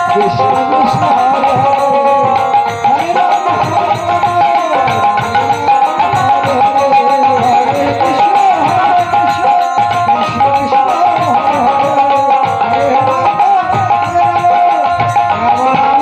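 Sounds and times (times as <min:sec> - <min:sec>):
drums beating steady rhythm: 0:00.0 - 0:16.0
harmonium tones: 0:00.0 - 0:16.0
person singing: 0:00.0 - 0:16.0.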